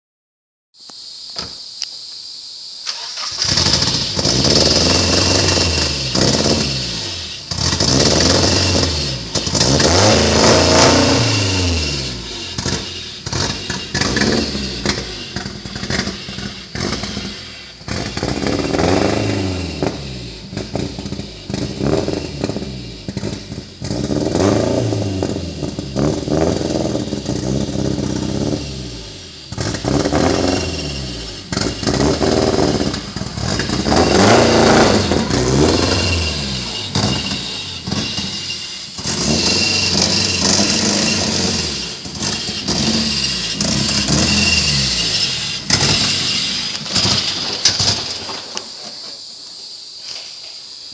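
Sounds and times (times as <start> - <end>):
car engine revving: 2.9 - 48.2.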